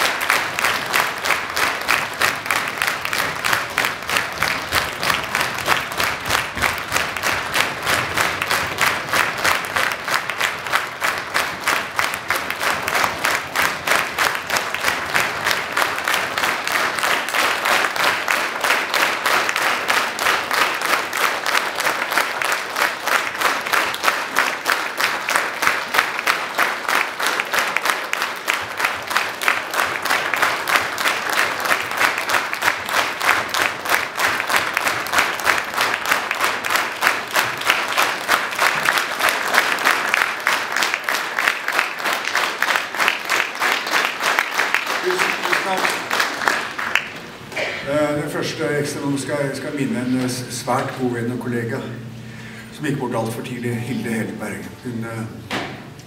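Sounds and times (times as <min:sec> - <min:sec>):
audience clapping in unison: 0:00.0 - 0:53.8.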